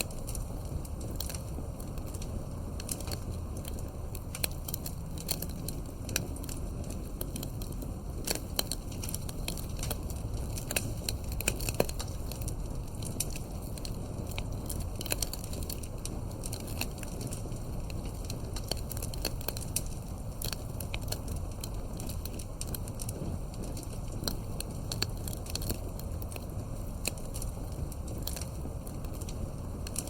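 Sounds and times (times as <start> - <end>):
low steady rumble: 0.0 - 30.0
wood fire crackling: 0.0 - 30.0.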